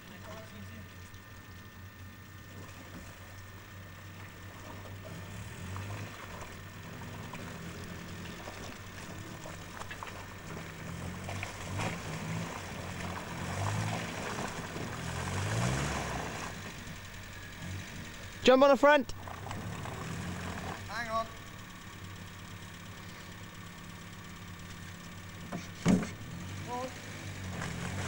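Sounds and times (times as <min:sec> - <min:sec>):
off-road vehicle engine under load: 0:00.0 - 0:28.0.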